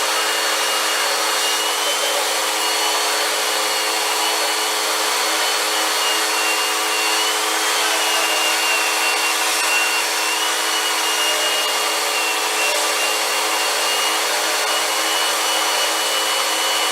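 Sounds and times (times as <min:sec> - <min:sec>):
vacuum cleaner running: 0:00.0 - 0:16.9.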